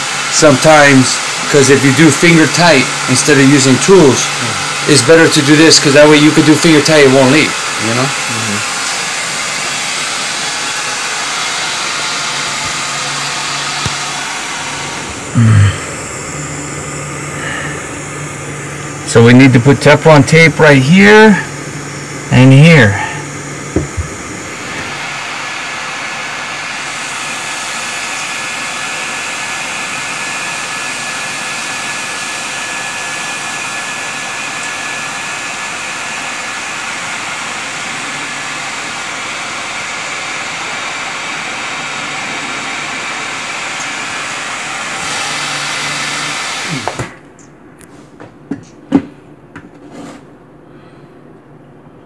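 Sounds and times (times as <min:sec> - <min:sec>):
electric motor whirring: 0:00.0 - 0:47.2.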